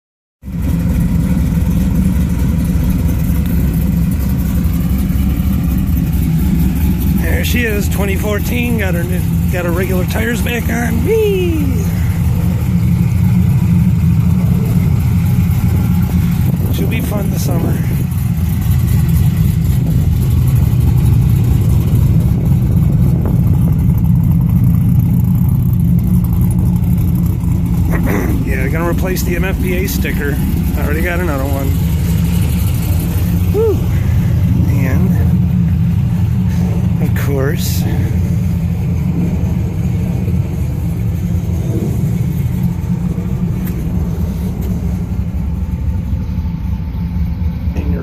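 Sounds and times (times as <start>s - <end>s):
car engine idling: 0.4s - 48.0s.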